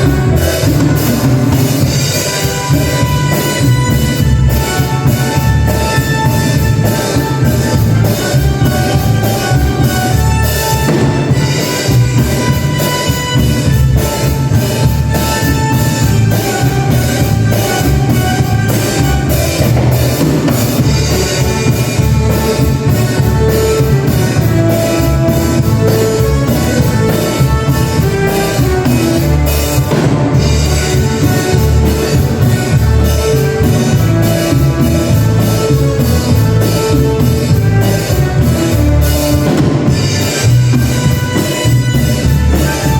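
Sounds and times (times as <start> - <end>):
band melody: 0.0 - 42.9
bass line: 0.0 - 42.9
drum kit beat: 0.0 - 42.9.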